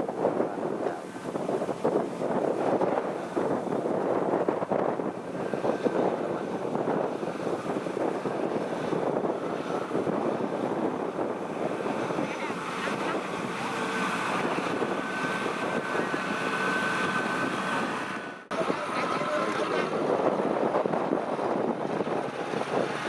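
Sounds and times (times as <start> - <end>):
combine harvester diesel engine: 0.0 - 23.0
thin steady whine: 0.0 - 23.0.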